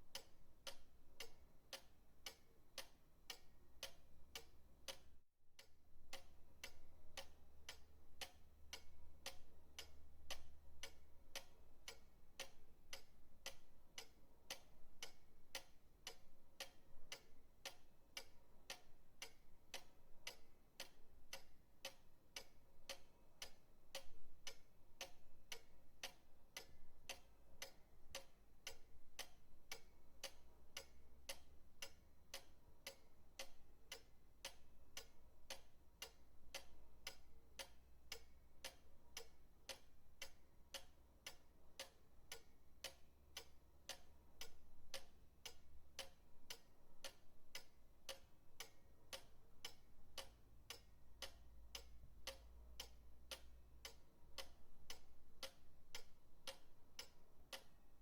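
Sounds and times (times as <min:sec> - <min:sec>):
pendulum clock ticking: 0:00.0 - 0:58.0.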